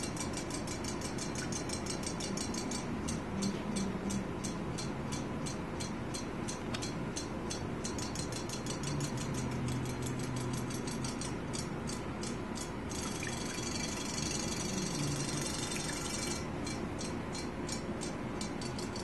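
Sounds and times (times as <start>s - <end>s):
toy fish tail ticking: 0.0s - 19.0s.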